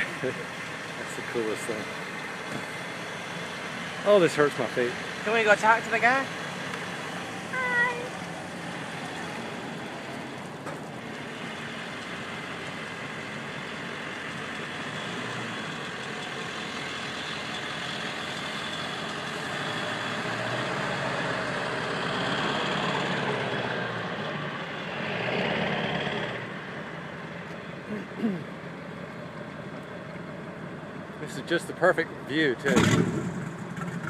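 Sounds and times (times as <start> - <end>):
van engine running at low speed: 0.0 - 34.0.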